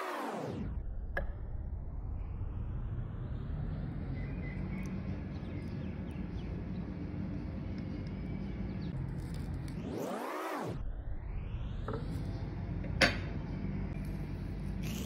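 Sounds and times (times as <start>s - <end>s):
low rumbling background noise: 0.5s - 9.9s, 10.8s - 15.0s.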